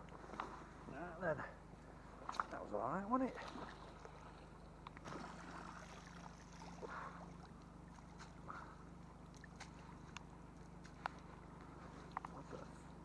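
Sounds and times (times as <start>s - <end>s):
rope hauled through water: 2.0s - 13.0s.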